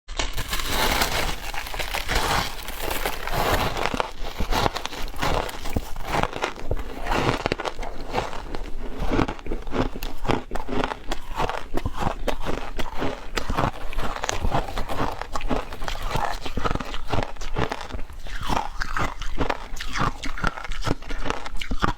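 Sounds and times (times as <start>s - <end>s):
ice being crunched and chewed: 0.1s - 21.9s.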